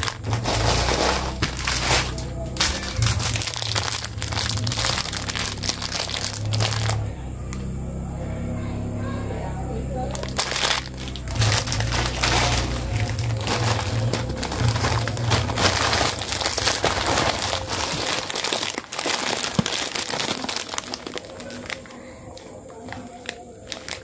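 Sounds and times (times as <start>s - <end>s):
plastic packaging crinkling: 0.0s - 7.0s, 10.1s - 24.0s.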